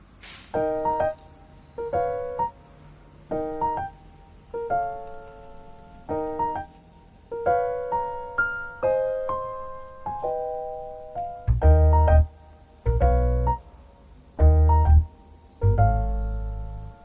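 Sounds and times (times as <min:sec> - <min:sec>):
piano notes and chords ringing: 0:00.0 - 0:17.0.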